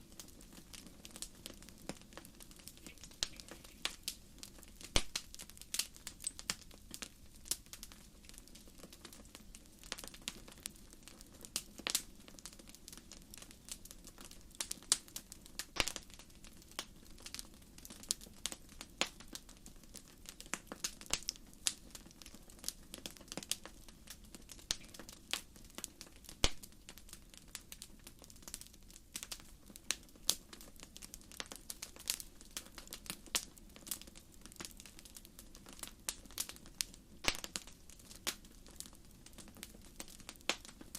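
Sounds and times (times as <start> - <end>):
campfire crackling and popping: 0.0 - 40.9
low rumble of flames: 0.0 - 40.9.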